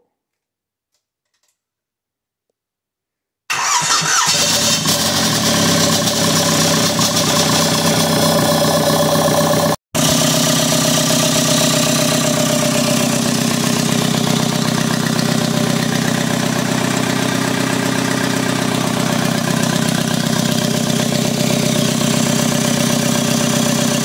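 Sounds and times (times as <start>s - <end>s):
diesel engine idling: 3.6s - 24.0s.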